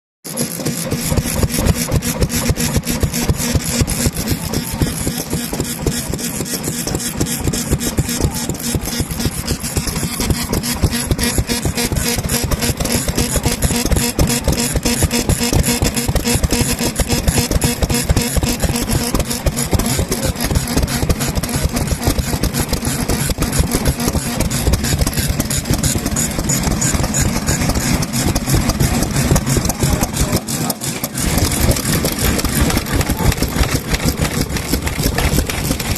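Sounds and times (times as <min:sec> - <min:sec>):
stationary engines running: 0:00.2 - 0:35.9
low hum: 0:00.8 - 0:35.9.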